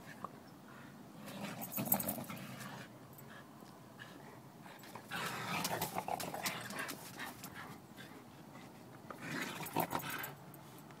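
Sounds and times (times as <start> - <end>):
dogs playing tug-of-war: 0.0 - 10.7.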